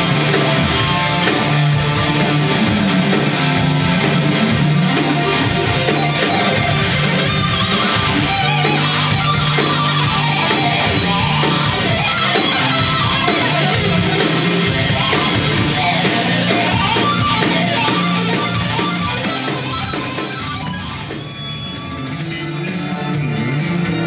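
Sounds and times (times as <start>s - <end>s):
distorted electric guitar: 0.0s - 24.0s
drums with cymbals: 0.0s - 24.0s
electric bass line: 0.0s - 24.0s.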